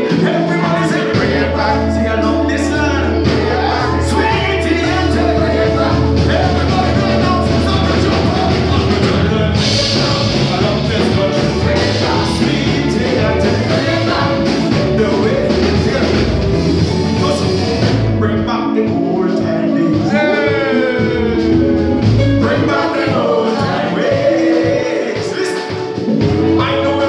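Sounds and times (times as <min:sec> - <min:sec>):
man singing into microphone: 0:00.0 - 0:16.4, 0:17.2 - 0:27.0
live band playing: 0:00.0 - 0:27.0.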